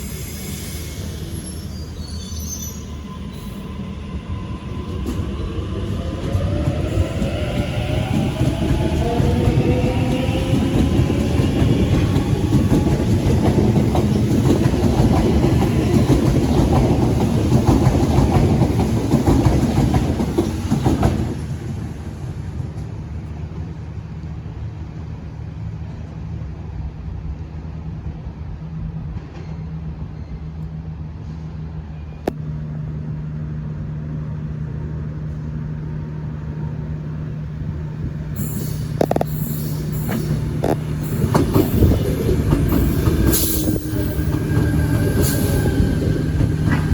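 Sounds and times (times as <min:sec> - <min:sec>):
electric train running past: 0:00.0 - 0:46.9.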